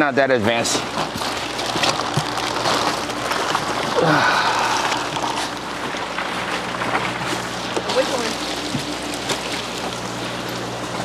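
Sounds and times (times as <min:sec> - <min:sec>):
plastic bags rustling: 0:00.5 - 0:11.0.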